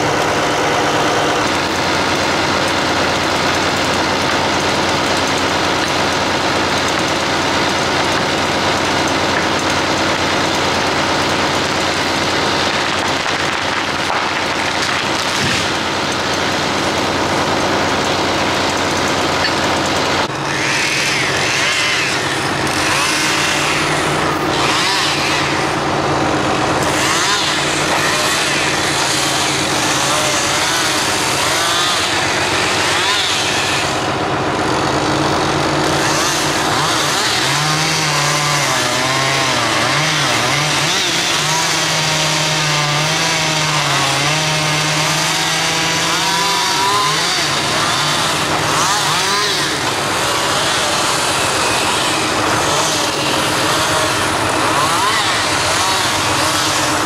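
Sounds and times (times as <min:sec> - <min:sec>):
chainsaw running: 0:00.0 - 0:57.0
tractor diesel engine under load: 0:00.0 - 0:57.0.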